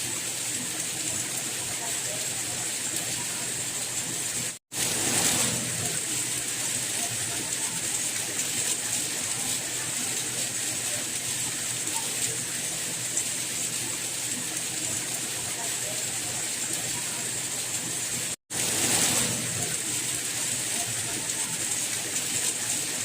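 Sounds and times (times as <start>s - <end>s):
rain hiss: 0.0s - 23.0s.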